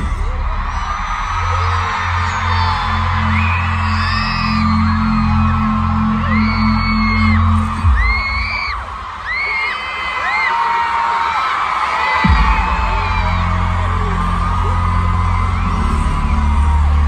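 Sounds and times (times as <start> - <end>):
deep pulsing bass: 0.0 - 9.2, 12.3 - 17.0
crowd screaming and whooping: 0.0 - 17.0.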